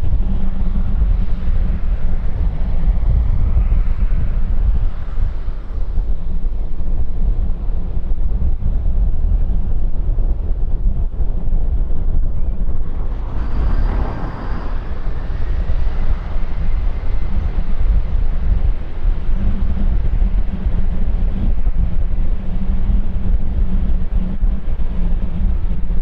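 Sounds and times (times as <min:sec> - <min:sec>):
jet engines rumbling: 0:00.0 - 0:09.9, 0:10.6 - 0:26.0
faint high engine whine: 0:00.0 - 0:26.0
wind buffeting microphone: 0:00.0 - 0:26.0.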